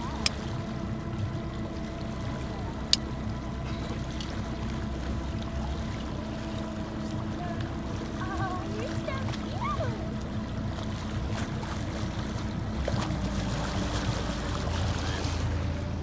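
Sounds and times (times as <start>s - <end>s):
boat motor running: 0.0s - 16.0s
water washing against raft: 0.0s - 16.0s.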